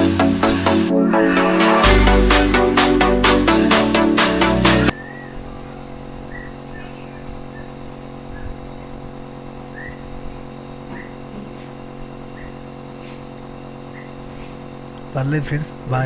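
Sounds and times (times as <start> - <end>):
nebulizer motor hum: 0.0 - 16.0.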